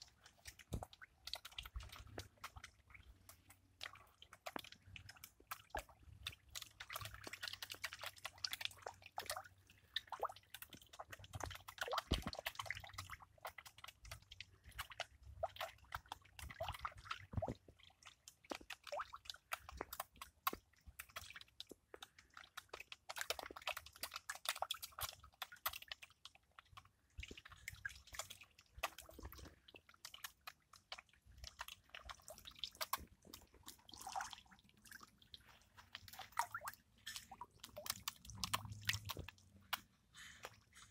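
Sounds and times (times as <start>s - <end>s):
fish slurping at water surface: 0.0s - 40.9s.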